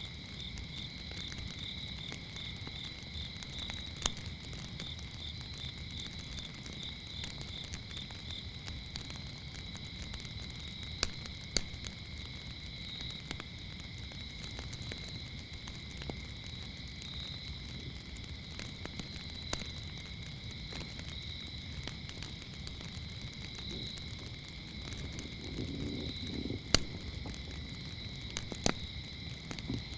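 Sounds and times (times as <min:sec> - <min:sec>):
campfire crackling and popping: 0:00.0 - 0:29.9
crickets chirping: 0:00.0 - 0:29.9
low rumble of flames: 0:00.0 - 0:29.9.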